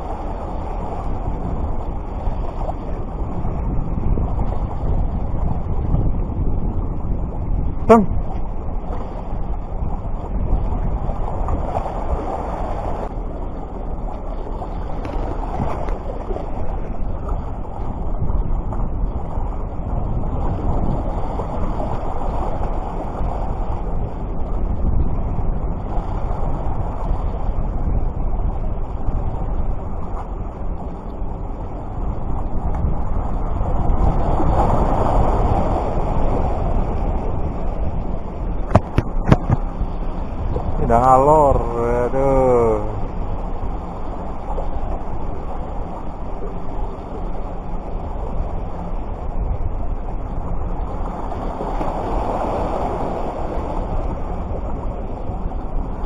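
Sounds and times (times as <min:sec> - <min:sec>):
sea surf: 0:00.0 - 0:56.0
wind buffeting microphone: 0:00.0 - 0:56.0.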